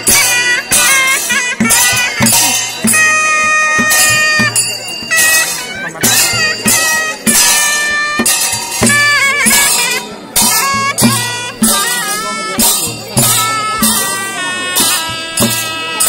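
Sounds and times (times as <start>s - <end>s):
cymbal strokes: 0.0s - 16.0s
drum strokes: 0.0s - 16.0s
reedy wind instrument melody: 0.0s - 16.0s.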